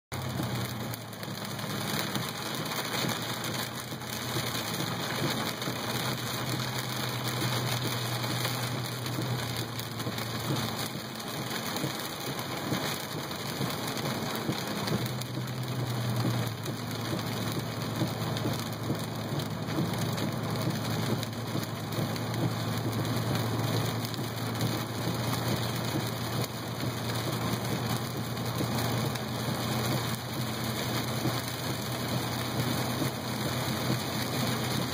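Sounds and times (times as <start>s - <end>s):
heavy rain pattering on a car: 0.1s - 34.9s
low hum of moving car: 0.1s - 34.9s.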